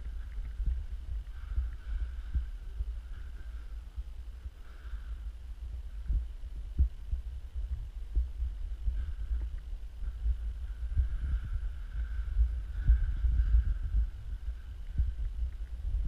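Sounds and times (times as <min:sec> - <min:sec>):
low handling rumble of camera: 0:00.0 - 0:04.5, 0:05.4 - 0:16.0.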